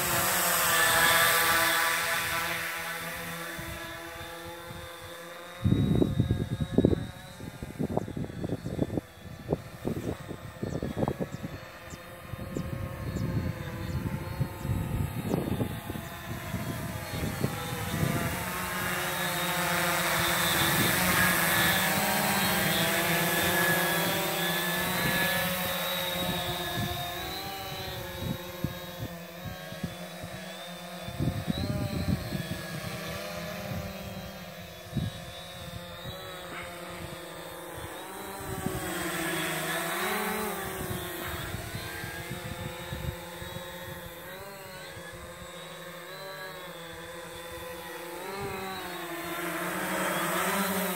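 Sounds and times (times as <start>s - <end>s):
drone propellers buzzing whine: 0.0s - 50.9s.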